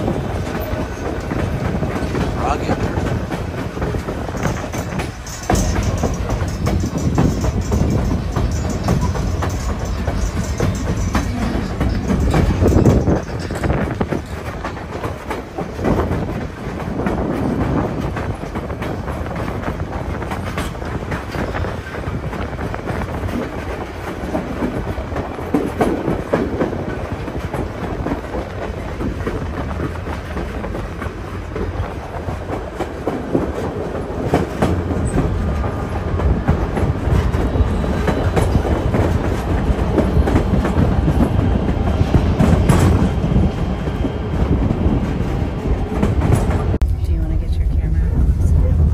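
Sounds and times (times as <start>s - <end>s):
clickety-clack over rail joints: 0.0s - 48.9s
train wheels rumbling on rails: 0.0s - 48.9s.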